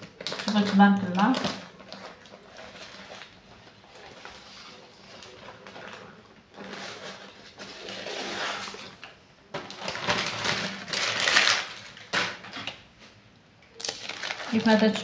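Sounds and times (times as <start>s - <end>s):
baking paper rustling and crinkling: 0.0s - 13.2s, 13.8s - 15.0s.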